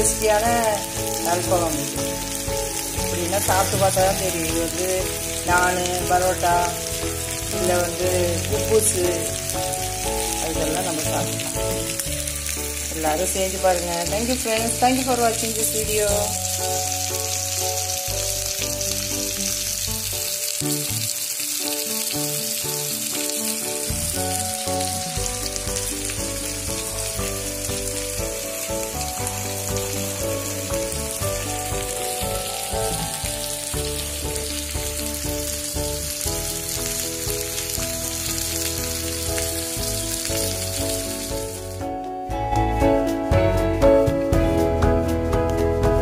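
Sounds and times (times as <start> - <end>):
chicken sizzling in oil: 0.0 - 46.0
soft background music: 0.0 - 46.0.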